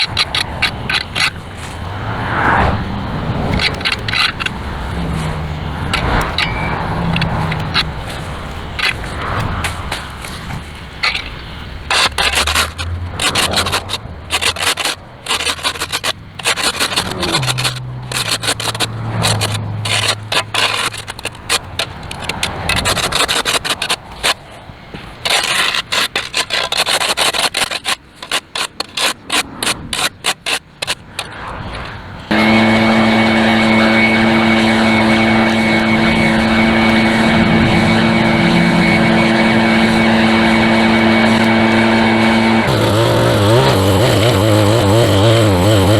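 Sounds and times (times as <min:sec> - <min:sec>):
hand tool scraping concrete: 0:00.0 - 0:45.9
small engine whining: 0:00.0 - 0:45.9.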